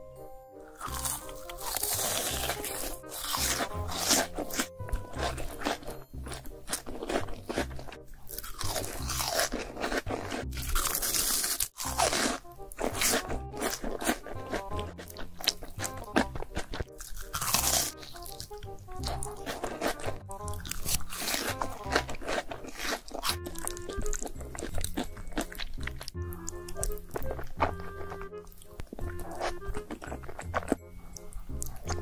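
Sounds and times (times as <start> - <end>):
background music: 0.0 - 32.0
crunchy chewing: 0.6 - 32.0.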